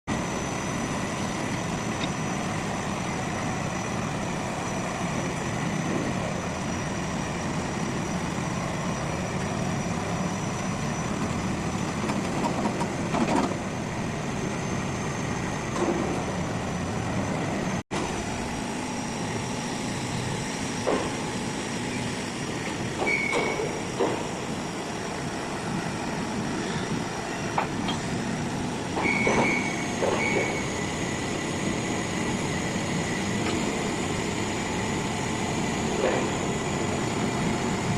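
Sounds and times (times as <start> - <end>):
drilling rig engine running: 0.1 - 37.9.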